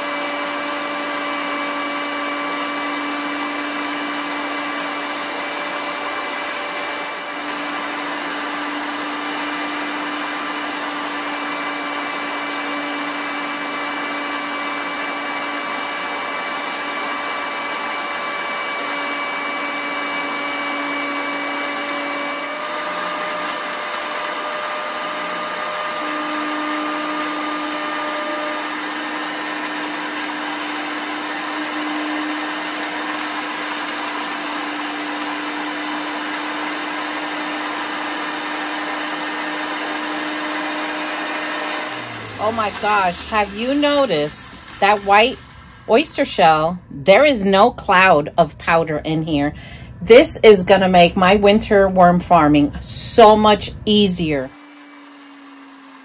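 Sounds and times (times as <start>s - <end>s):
electric grinder motor whine: 0.0s - 46.7s, 53.2s - 56.0s.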